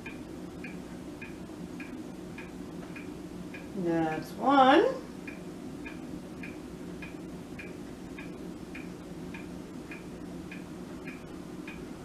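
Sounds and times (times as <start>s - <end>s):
clock ticking: 0.0s - 4.2s, 5.3s - 11.9s
low steady hum: 0.0s - 12.0s.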